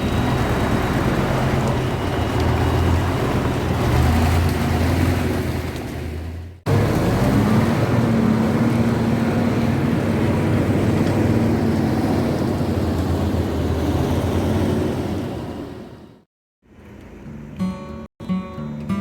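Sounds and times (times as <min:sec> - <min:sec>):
diesel lorry engine running: 0:00.0 - 0:16.2.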